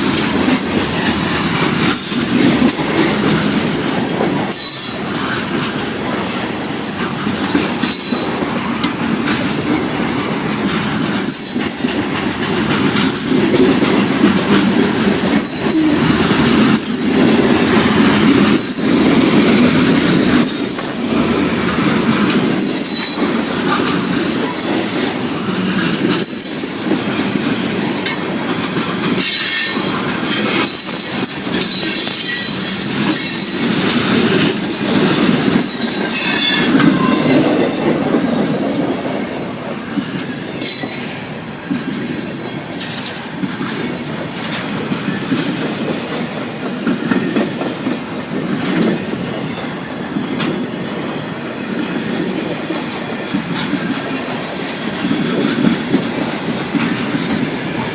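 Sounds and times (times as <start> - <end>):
train rumble: 0.0 - 57.9
wheels clacking over rail joints: 0.0 - 57.9.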